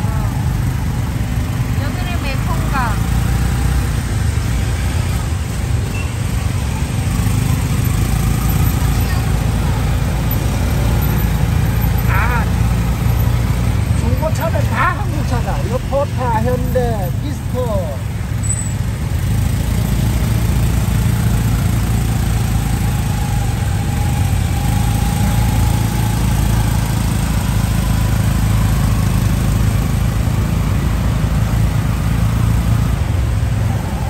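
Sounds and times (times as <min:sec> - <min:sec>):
auto rickshaw engine running: 0:00.0 - 0:34.0
road and traffic noise: 0:00.0 - 0:34.0.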